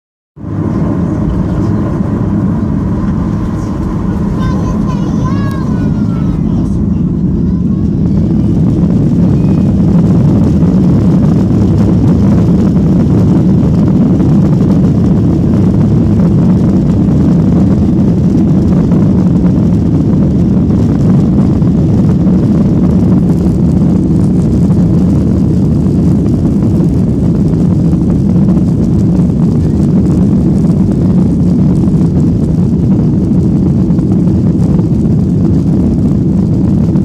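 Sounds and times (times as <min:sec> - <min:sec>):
jet engines rumbling: 0:00.4 - 0:37.0.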